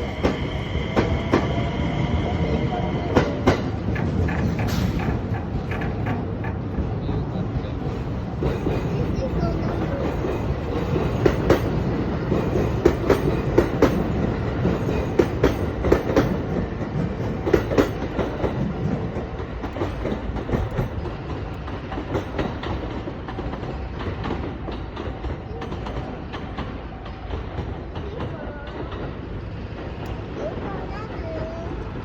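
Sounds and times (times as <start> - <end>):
train wheels clacking over rail joints: 0.0 - 31.6.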